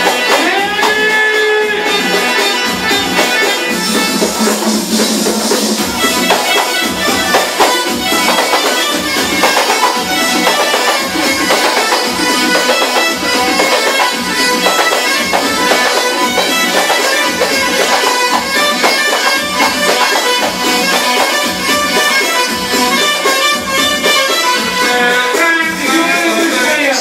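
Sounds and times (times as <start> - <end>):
reedy wind instrument lead: 0.0 - 27.0
steady drum beat: 0.0 - 27.0.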